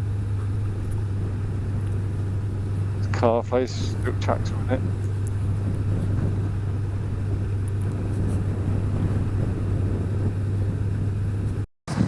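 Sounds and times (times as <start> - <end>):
motorcycle engine hum: 0.0 - 12.0
wind and road noise: 0.0 - 12.0.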